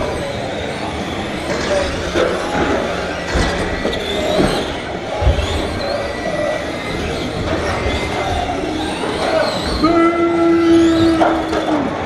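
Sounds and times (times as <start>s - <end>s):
toy truck motors whining: 0.0s - 12.0s.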